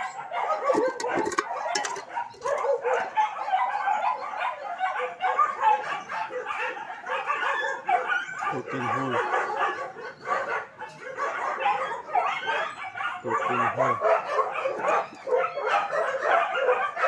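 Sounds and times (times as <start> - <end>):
dog whining and yipping: 0.0 - 17.0.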